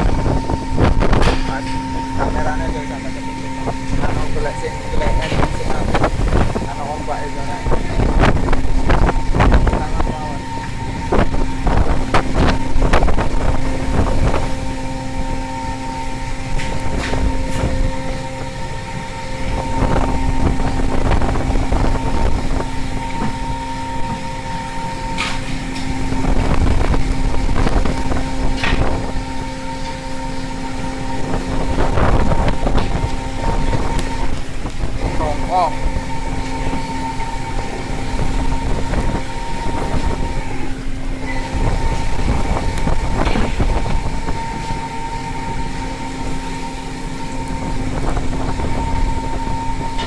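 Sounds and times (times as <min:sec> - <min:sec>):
machinery humming: 0:00.0 - 0:50.0
wind and sea rumble: 0:00.0 - 0:50.0
wind buffeting microphone: 0:00.0 - 0:50.0.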